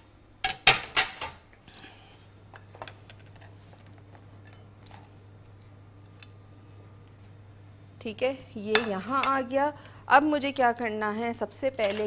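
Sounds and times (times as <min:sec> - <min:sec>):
steady low hum: 0:01.4 - 0:11.9.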